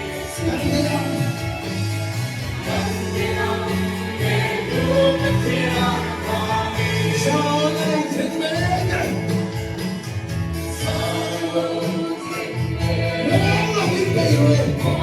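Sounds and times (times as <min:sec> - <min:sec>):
choir singing gospel music: 0:00.0 - 0:15.0.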